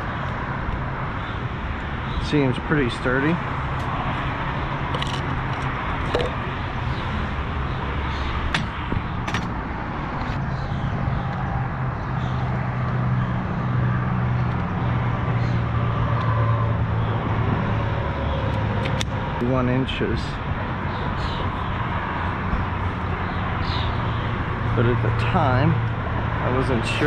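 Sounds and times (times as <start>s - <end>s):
outdoor noise: 0.0s - 27.0s.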